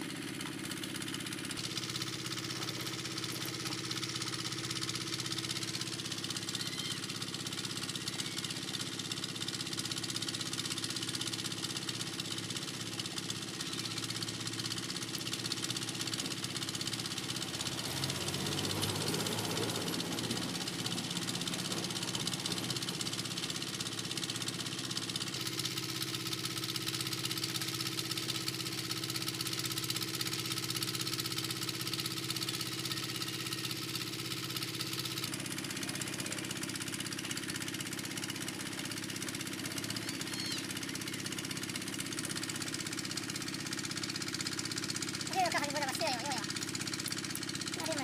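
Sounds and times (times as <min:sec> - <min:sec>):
machine running: 0:00.1 - 0:07.2, 0:13.7 - 0:48.0.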